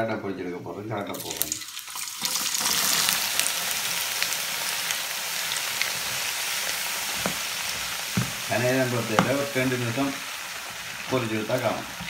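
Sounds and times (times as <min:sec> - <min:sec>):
carrots sizzling in hot oil: 0:01.1 - 0:12.0
frying crackle and pops: 0:01.1 - 0:12.0.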